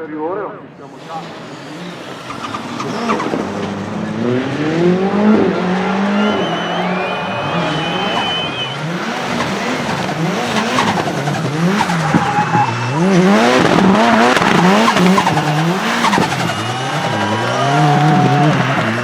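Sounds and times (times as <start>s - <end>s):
car engine revving: 0.6s - 19.0s
tyres squealing: 0.8s - 3.9s, 5.9s - 19.0s.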